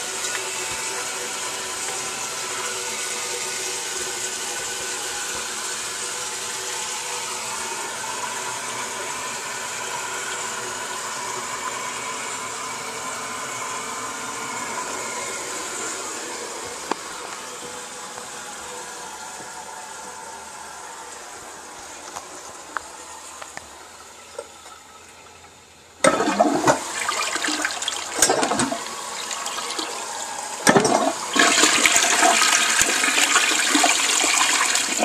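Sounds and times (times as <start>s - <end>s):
water running into toilet tank: 0.0s - 17.4s, 24.3s - 35.0s.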